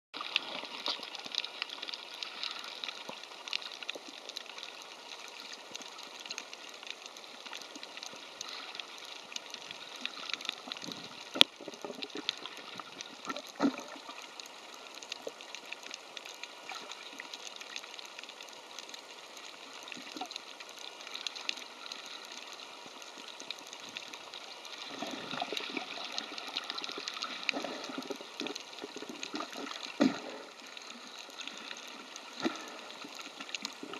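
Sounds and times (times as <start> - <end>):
underwater crackling hiss: 0.2 - 33.9.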